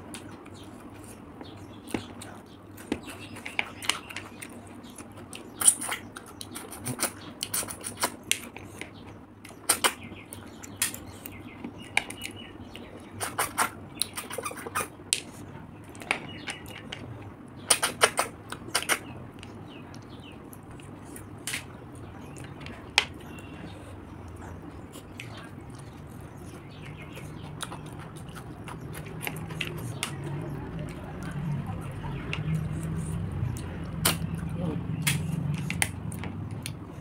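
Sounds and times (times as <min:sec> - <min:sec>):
wet chewing and lip smacks: 0:00.0 - 0:17.0, 0:24.2 - 0:37.0.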